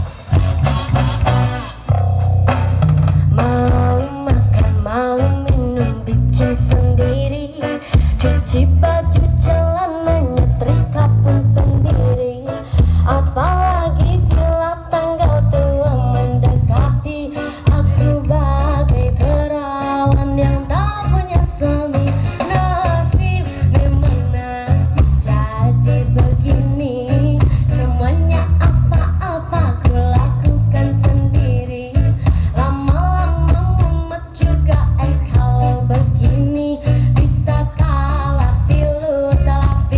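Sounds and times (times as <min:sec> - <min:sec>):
song with singing and guitar: 0:00.0 - 0:39.9.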